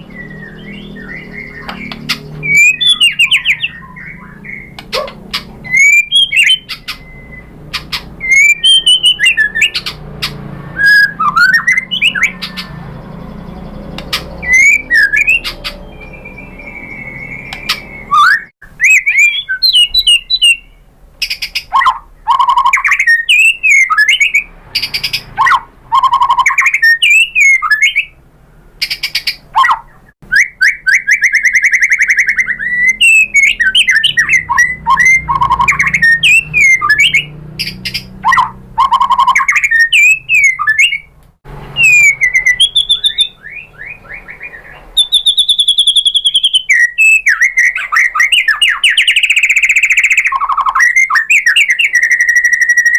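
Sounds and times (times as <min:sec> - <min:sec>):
bird singing whistles and trills: 0:00.0 - 0:28.2, 0:28.8 - 0:41.1, 0:41.7 - 0:52.9.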